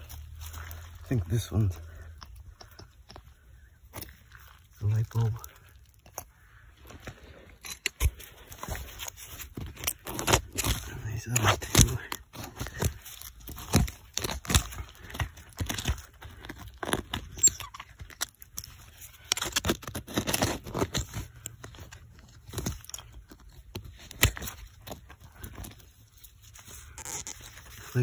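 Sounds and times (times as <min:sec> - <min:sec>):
hand rake scraping soil: 0:00.0 - 0:02.1, 0:07.1 - 0:28.0.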